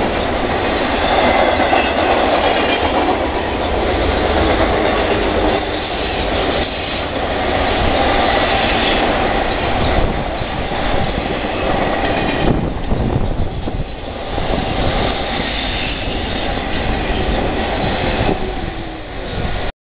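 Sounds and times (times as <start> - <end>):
wheels clacking over rail joints: 0.0 - 19.5
freight train rumbling and rattling: 0.0 - 19.7.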